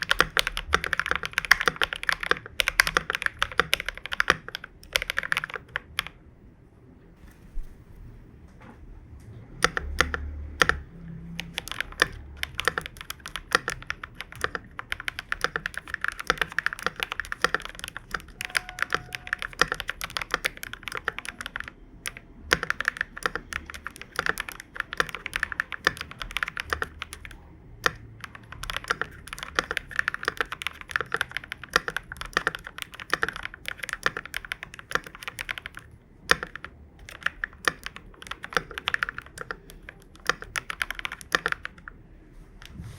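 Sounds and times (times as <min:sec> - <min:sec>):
mechanical keyboard typing: 0:00.0 - 0:06.2, 0:09.4 - 0:42.0.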